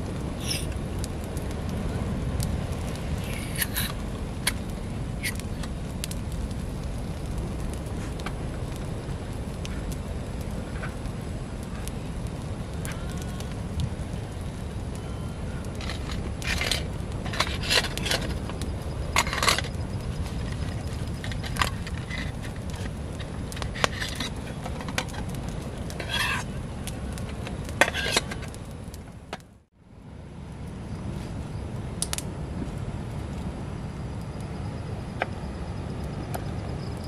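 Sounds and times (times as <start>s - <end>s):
campfire crackling and popping: 0.0s - 37.0s
steady low rumble: 0.0s - 37.0s.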